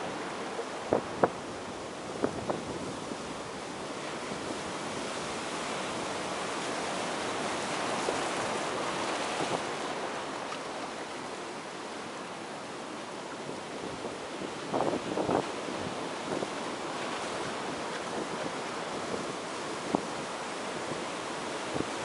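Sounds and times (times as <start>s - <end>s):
heavy ocean surf breaking: 0.0s - 22.0s.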